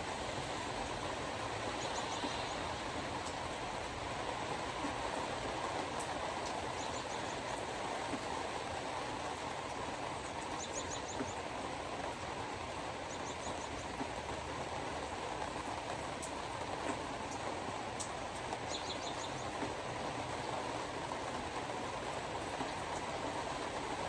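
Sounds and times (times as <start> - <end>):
hard rain: 0.0 - 24.0.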